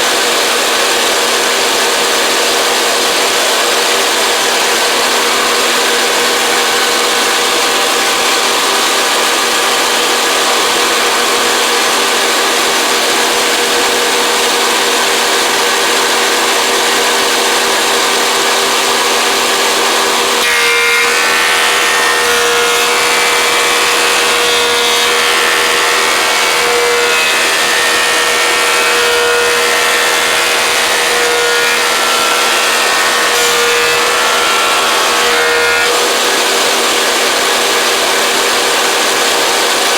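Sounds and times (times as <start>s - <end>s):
thickness planer planing wood: 0.0s - 39.9s.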